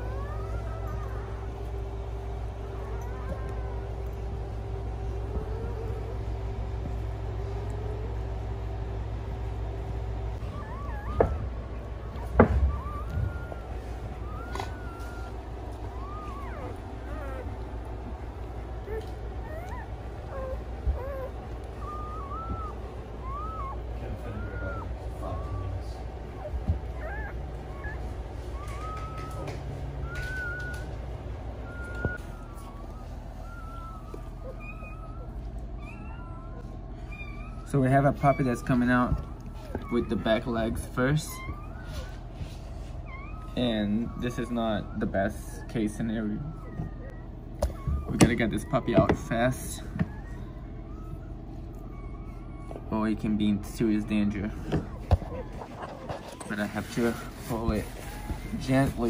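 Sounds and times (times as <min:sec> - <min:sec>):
puppies squeaking and whining: 0:00.0 - 0:59.0
steady low hum: 0:00.0 - 0:59.0.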